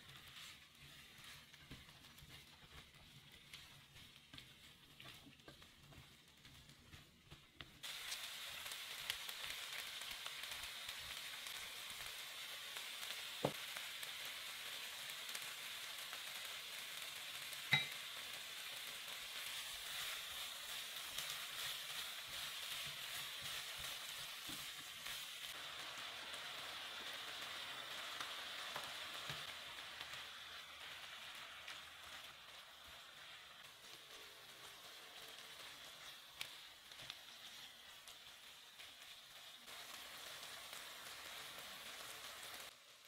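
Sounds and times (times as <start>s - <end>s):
vegetables sizzling in oil: 0.0s - 43.0s.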